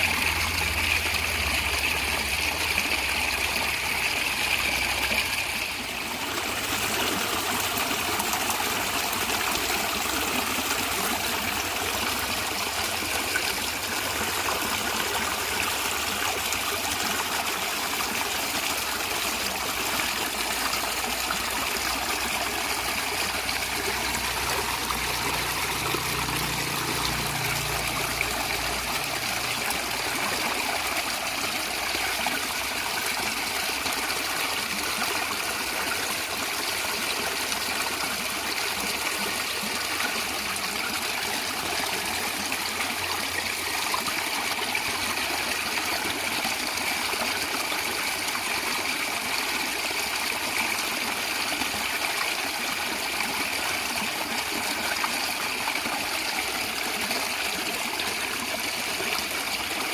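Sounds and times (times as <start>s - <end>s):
stream gurgling: 0.0s - 59.9s.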